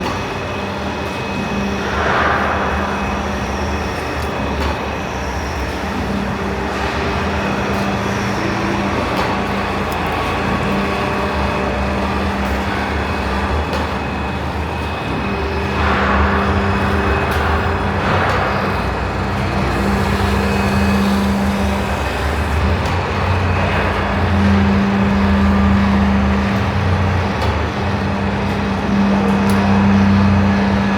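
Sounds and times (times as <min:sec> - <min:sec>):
drilling machine humming: 0:00.0 - 0:30.9.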